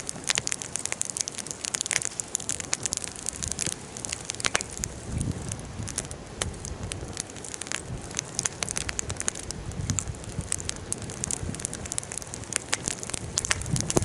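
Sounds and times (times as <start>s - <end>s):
bonfire crackling and popping: 0.0s - 14.0s
low rush of burning: 0.0s - 14.0s.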